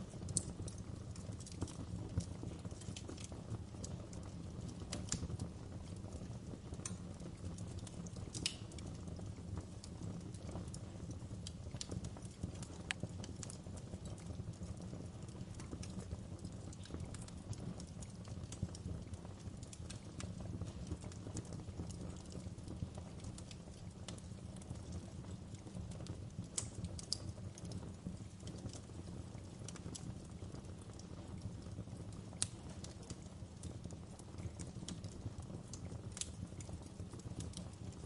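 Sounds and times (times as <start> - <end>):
low rumble of flames: 0.0 - 38.0
wood fire crackling: 0.0 - 38.0.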